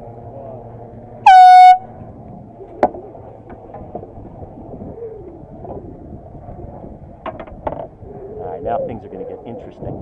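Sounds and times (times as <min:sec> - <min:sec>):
boat ambience: 0:00.0 - 0:09.9
wind rumbling on microphone: 0:00.0 - 0:10.0.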